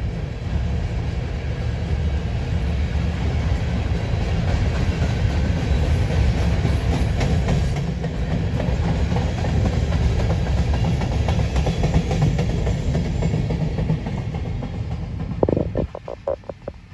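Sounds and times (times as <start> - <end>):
freight train rumbling past: 0.0 - 16.9
steel wheels clacking on rails: 0.0 - 16.9.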